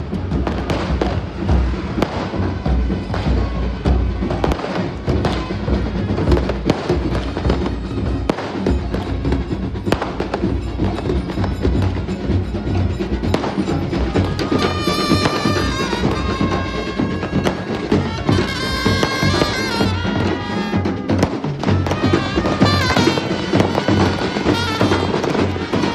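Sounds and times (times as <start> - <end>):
firecrackers banging: 0.0 - 25.9
percussion strikes: 0.0 - 25.9.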